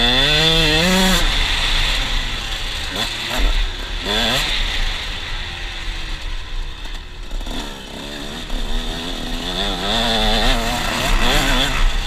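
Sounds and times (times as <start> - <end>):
motocross engine revving: 0.0 - 6.2, 7.2 - 12.0.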